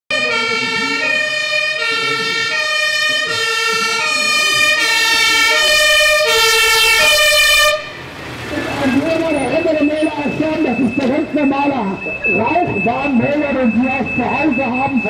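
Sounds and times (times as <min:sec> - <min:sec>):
fire engine two-tone siren: 0:00.1 - 0:08.0, 0:08.6 - 0:15.0.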